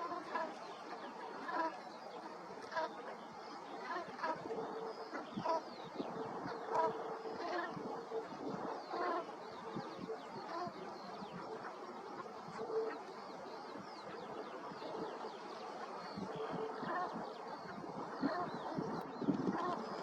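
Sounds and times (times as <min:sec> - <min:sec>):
geese flock calling: 0:00.0 - 0:20.0.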